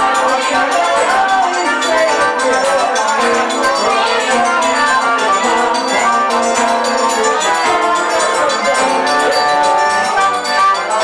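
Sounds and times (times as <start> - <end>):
accordion: 0.0 - 11.0
acoustic guitar: 0.0 - 11.0.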